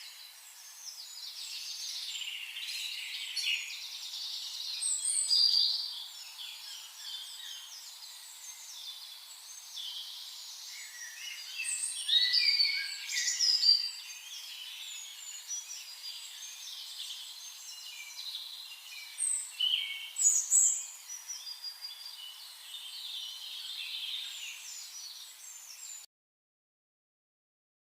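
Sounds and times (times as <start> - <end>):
songbirds chirping and singing: 0.0 - 26.1.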